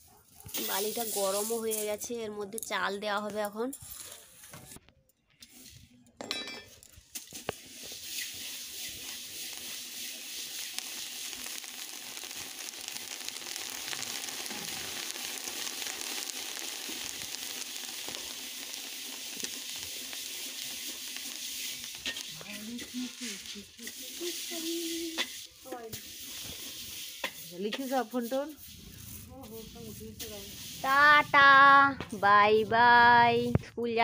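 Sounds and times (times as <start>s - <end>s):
rice sizzling in hot sand: 0.0s - 2.4s, 7.0s - 33.3s.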